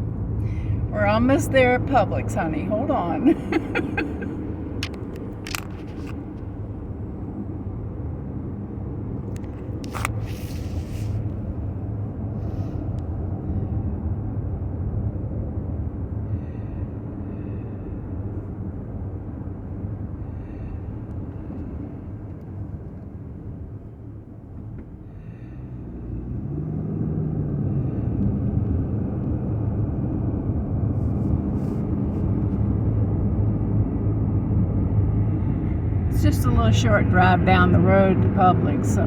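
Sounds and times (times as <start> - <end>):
car engine and road rumble: 0.0 - 39.0.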